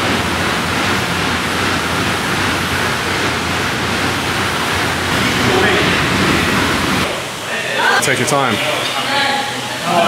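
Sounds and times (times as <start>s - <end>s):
air bike fan whooshing: 0.0s - 8.4s.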